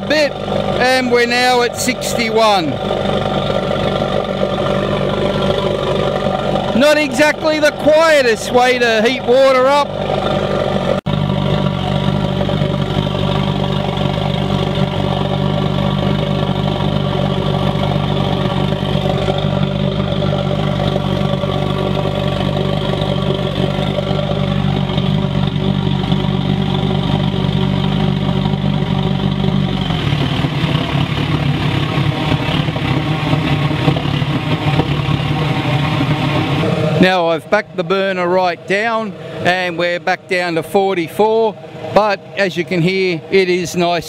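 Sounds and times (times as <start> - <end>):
oil burner roaring: 0.0 - 44.0.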